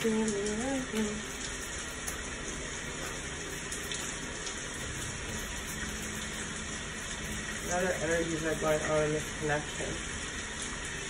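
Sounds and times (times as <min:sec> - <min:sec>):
heavy rainfall: 0:00.0 - 0:11.0.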